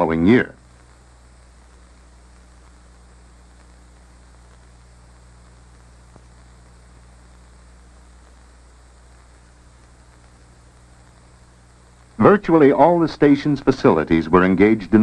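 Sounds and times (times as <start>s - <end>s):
film soundtrack hiss and hum: 0.0s - 15.0s.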